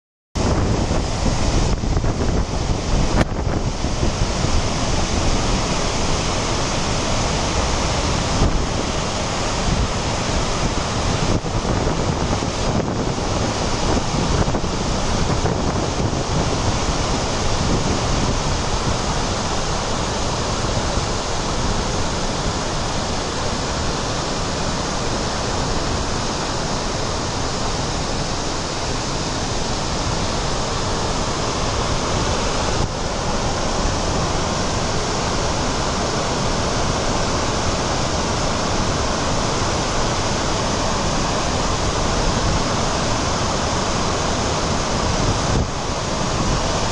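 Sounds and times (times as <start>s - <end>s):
floodwater pouring over overflow: 0.5s - 46.9s.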